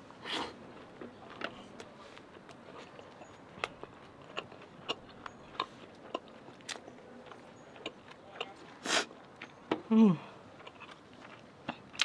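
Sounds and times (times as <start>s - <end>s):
person chewing food: 0.7s - 9.4s, 10.4s - 12.0s.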